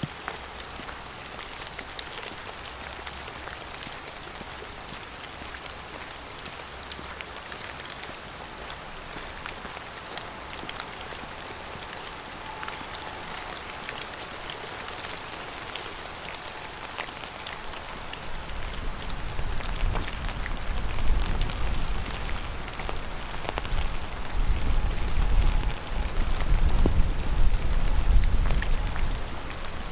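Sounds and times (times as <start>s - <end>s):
raindrops striking close by: 0.0s - 29.9s
steady rain: 0.0s - 29.9s.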